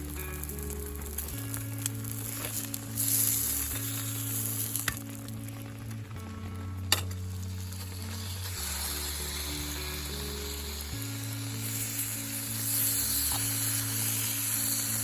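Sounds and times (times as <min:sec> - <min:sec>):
food sizzling in a pan: 0:00.0 - 0:15.0
soft background music: 0:00.0 - 0:15.0.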